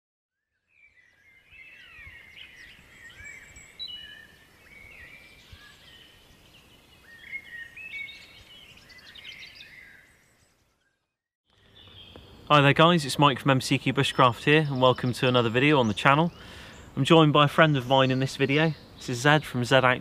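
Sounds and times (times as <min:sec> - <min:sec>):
birds singing: 0:00.4 - 0:20.0.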